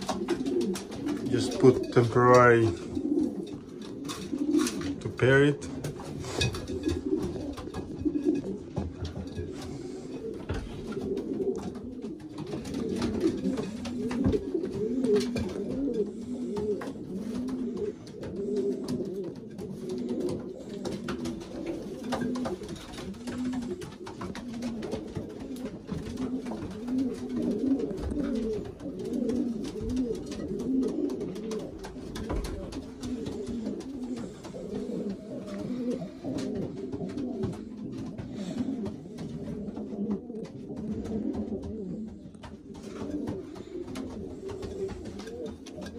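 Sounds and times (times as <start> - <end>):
faint clicks and taps: 0.0 - 45.9
pigeons cooing: 0.0 - 45.9.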